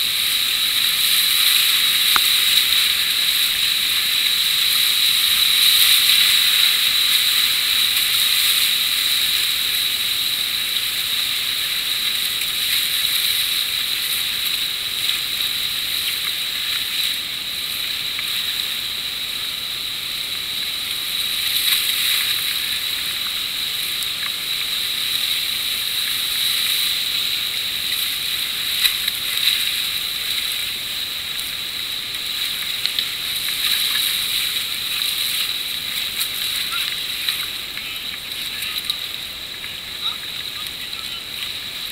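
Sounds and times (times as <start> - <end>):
whitewater rapids rushing: 0.0 - 41.9.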